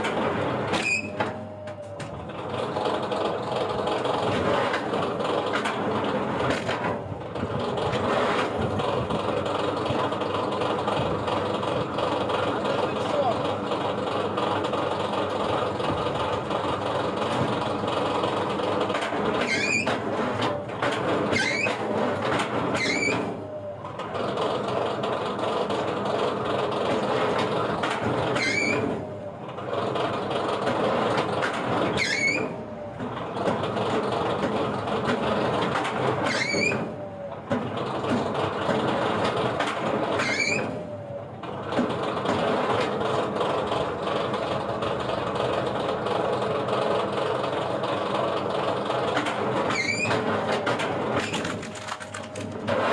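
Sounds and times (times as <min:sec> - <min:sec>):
heavy wood-processing machinery running: 0:00.0 - 0:52.9.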